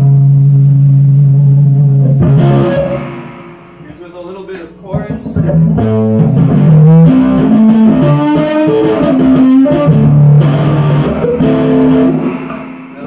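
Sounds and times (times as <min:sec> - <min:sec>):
electric guitar through amplifier: 0:00.0 - 0:13.0.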